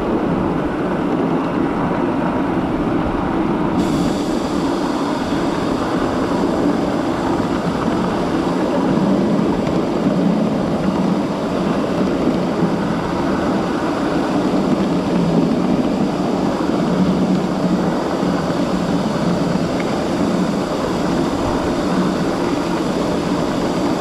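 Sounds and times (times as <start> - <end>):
miniature steam train rumbling: 0.0 - 24.0.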